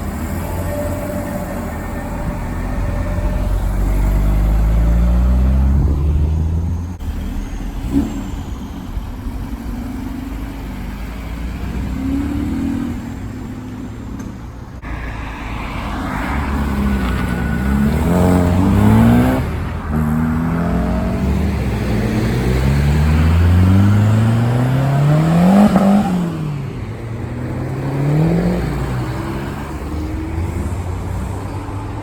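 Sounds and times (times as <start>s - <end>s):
car engine revving: 0.0s - 32.0s
cars driving past: 0.0s - 32.0s.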